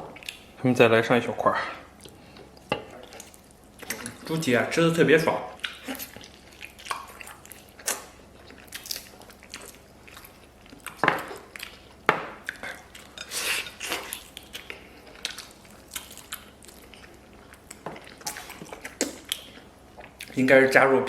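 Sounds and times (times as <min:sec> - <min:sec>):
man chewing food: 0:00.0 - 0:00.6, 0:01.8 - 0:04.5, 0:05.5 - 0:20.4.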